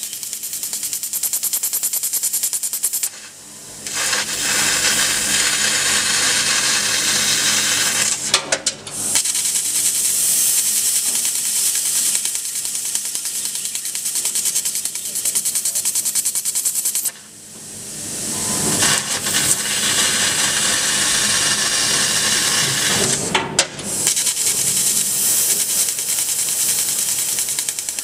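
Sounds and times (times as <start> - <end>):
laser cutter hissing crackle: 0.0 - 28.0.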